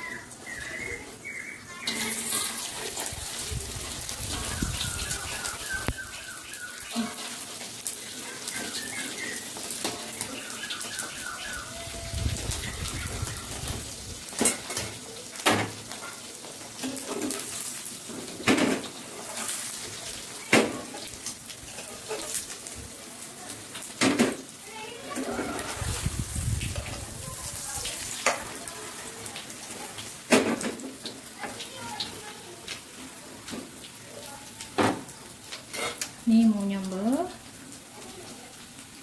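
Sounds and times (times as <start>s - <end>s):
eggs sizzling in a frying pan: 0.0s - 39.0s.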